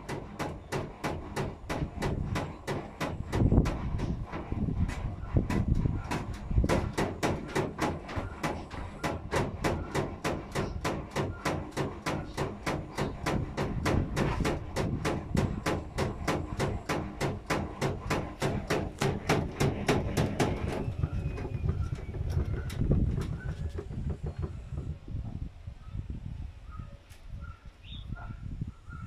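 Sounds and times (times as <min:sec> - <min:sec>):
washing machine spinning and knocking: 0:00.0 - 0:25.0.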